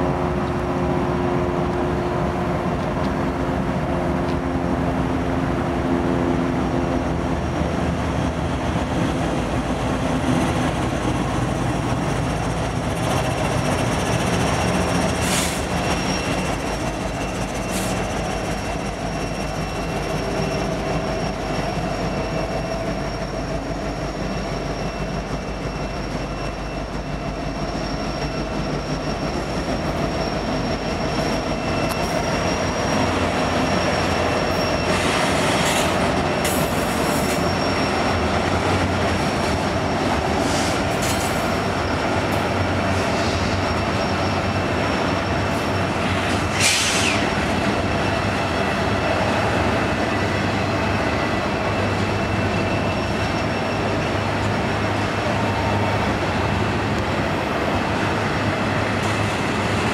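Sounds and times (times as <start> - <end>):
diesel locomotives rumbling: 0.0 - 59.9
train wheels rolling on rails: 0.0 - 59.9
wheels squealing: 8.2 - 59.9.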